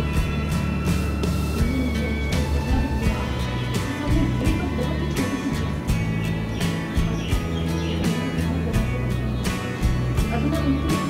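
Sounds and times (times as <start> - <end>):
background music with percussive hits: 0.0 - 11.0.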